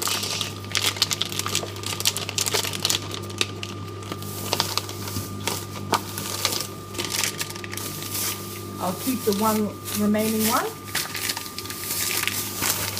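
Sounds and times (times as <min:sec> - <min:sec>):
fat crackling and popping: 0:00.0 - 0:12.9
microwave humming: 0:00.0 - 0:12.9.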